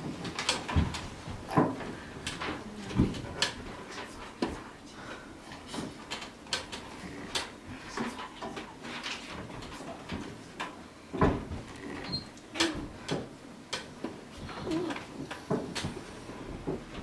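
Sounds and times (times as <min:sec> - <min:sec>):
chair knocks and clicks: 0:00.0 - 0:04.6, 0:05.6 - 0:17.0.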